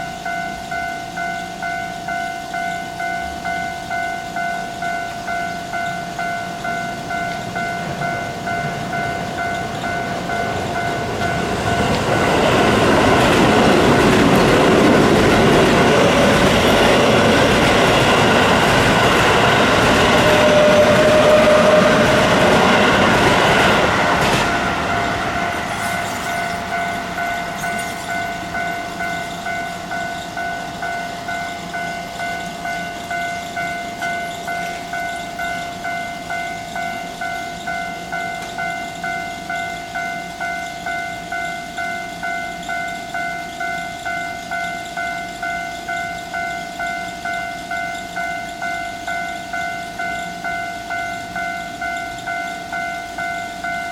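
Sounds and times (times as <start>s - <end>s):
electric train passing: 0.0s - 53.9s
level-crossing warning bell: 0.0s - 53.9s
train wheel squeal: 0.0s - 53.9s.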